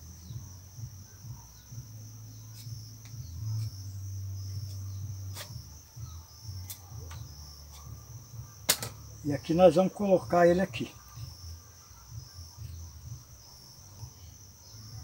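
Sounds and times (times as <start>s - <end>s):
insect chirring: 0.0s - 15.0s.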